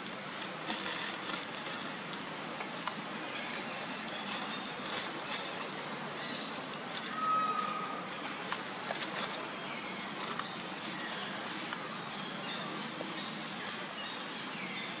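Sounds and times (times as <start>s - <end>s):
dry leaves crackling: 0.0s - 12.6s.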